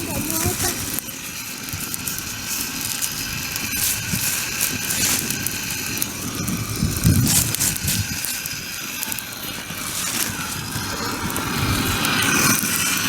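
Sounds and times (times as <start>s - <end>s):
campfire crackling: 0.0s - 13.0s
mechanical rattling whir: 0.0s - 13.0s.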